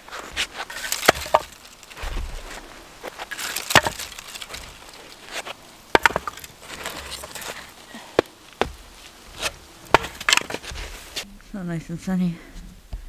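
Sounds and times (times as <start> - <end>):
firewood knocking and cracking: 0.0 - 11.2
wood scraping and rustling: 0.0 - 11.3.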